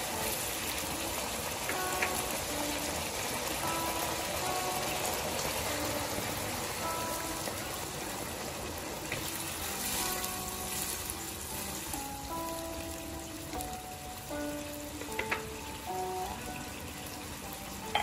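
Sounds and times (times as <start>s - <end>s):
background music: 0.0s - 18.0s
food sizzling in a wok: 0.0s - 18.0s.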